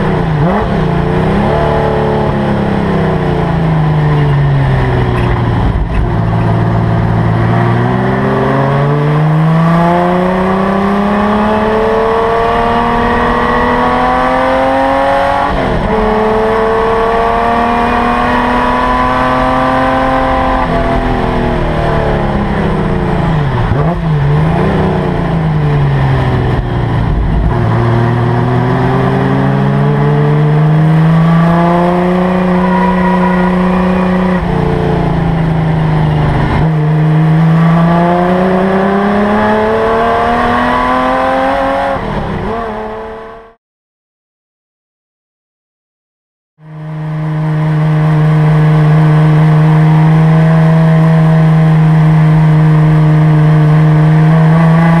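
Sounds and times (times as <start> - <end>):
race car engine revving: 0.0 - 43.6, 46.6 - 55.0.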